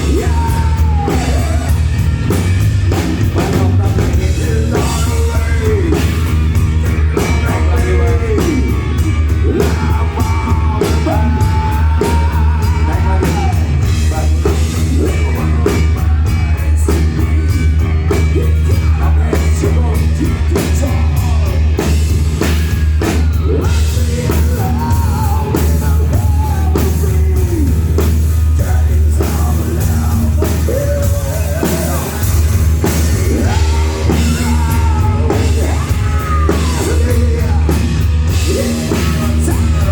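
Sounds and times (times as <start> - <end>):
person singing: 0.0 - 39.9
rock band playing loudly: 0.0 - 39.9.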